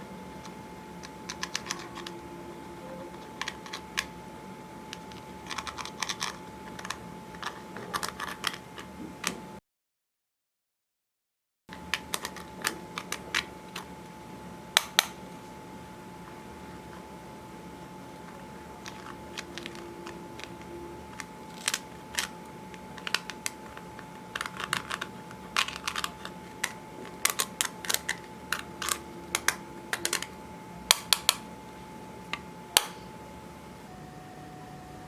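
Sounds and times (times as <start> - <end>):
faint steady hum: 0.0 - 9.6, 11.7 - 35.0.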